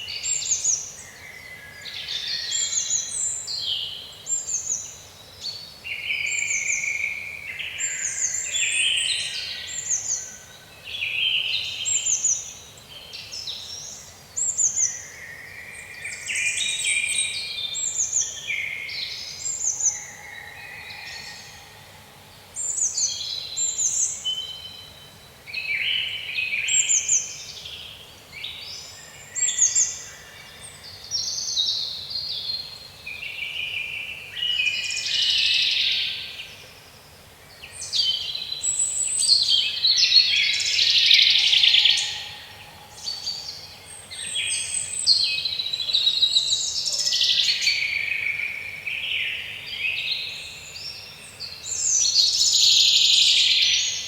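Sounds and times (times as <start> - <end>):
songbirds singing in chorus: 0.0 - 54.0.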